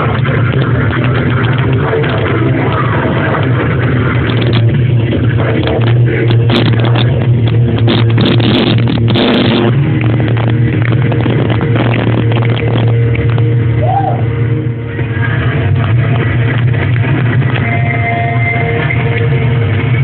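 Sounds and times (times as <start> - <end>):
distorted guitar: 0.0 - 20.0.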